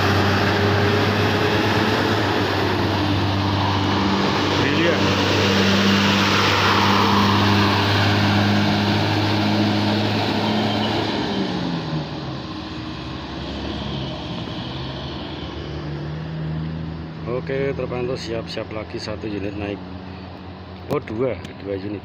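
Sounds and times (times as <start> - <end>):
bus diesel engine labouring: 0.0 - 22.0.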